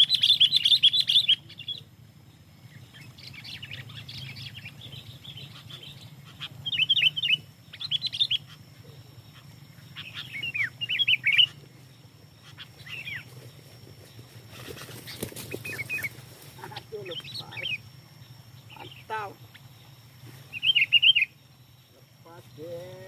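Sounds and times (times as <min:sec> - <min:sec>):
bird chirping: 0:00.0 - 0:23.0
low hum: 0:00.0 - 0:23.0.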